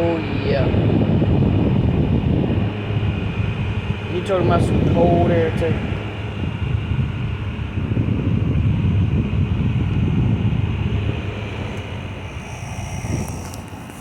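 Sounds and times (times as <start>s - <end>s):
air conditioner running: 0.0s - 14.0s
airflow buffeting microphone: 0.0s - 14.0s.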